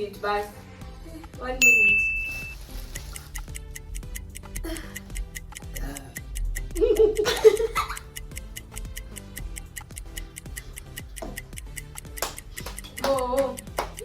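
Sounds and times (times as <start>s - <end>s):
countdown timer ticking: 1.2s - 14.0s.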